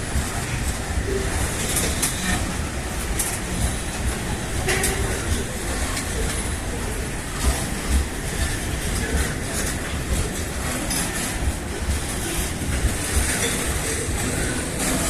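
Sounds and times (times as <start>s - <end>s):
freight wagons rumbling: 0.0s - 15.0s
wheels clattering on rails: 0.0s - 15.0s.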